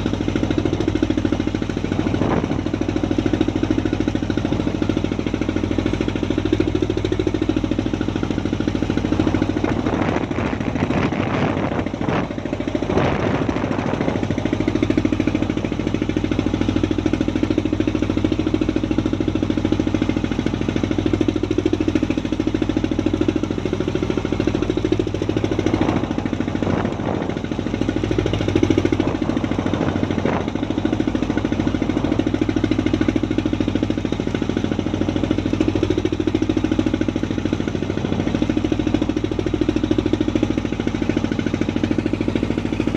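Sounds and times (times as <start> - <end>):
boat engine knocking: 0.0 - 42.9.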